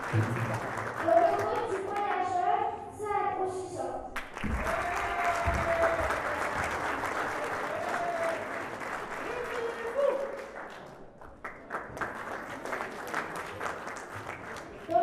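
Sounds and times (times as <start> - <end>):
audience applauding: 0.0 - 2.0, 4.2 - 15.0.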